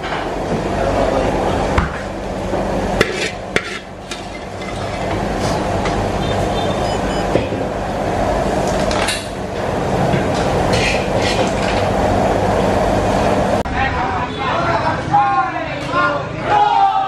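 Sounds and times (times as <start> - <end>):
kitchen roar: 0.0 - 17.0.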